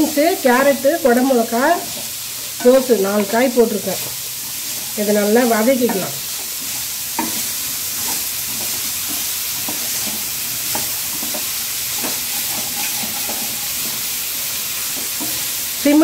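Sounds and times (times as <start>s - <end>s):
vegetables sizzling in oil: 0.0s - 16.0s
spatula scraping metal pan: 1.1s - 14.2s.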